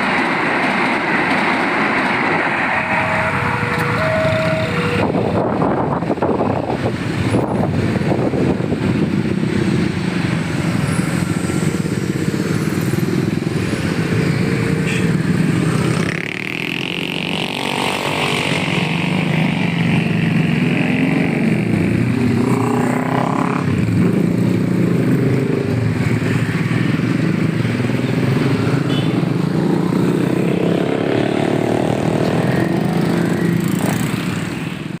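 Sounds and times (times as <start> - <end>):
engine whine: 0.0 - 34.4
vehicle engines passing: 0.0 - 35.0.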